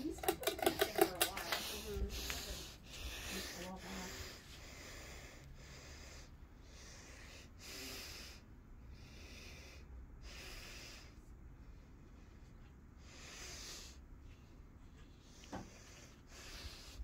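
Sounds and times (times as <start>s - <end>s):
ceiling fan air hiss: 0.0s - 17.0s
low fan hum: 0.0s - 17.0s.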